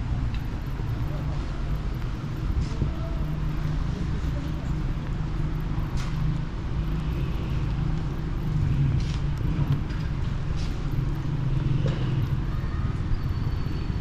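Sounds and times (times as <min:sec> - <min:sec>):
footsteps on wet pavement: 0:00.0 - 0:13.1
low rumble of city traffic: 0:00.0 - 0:14.0.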